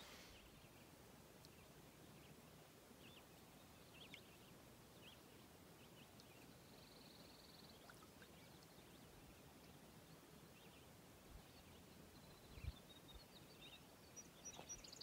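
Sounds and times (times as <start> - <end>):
faint songbird chirps: 0.0 - 15.0.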